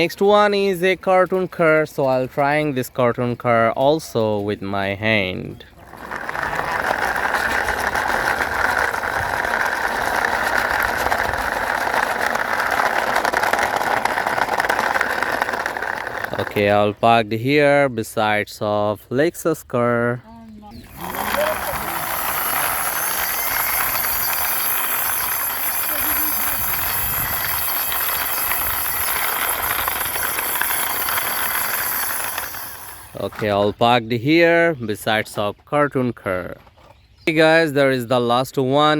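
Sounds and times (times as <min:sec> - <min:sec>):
toy car wheels rolling and rattling: 0:00.0 - 0:18.4, 0:20.7 - 0:33.8.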